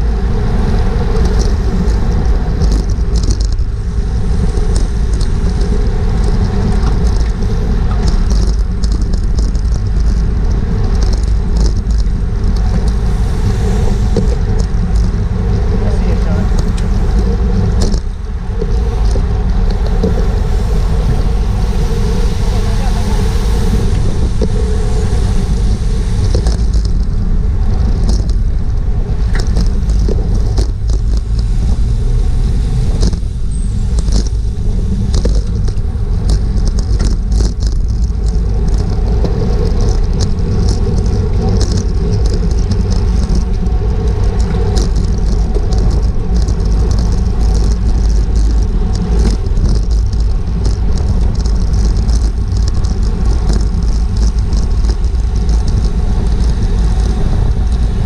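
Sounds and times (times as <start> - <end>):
wind rushing over microphone: 0.0 - 58.0
small clicks and rattles: 1.0 - 20.4, 23.9 - 58.0.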